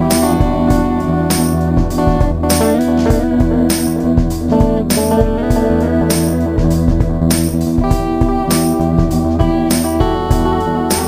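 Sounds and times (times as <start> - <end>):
electric guitar melody: 0.0 - 11.0
regular beat: 0.0 - 11.0.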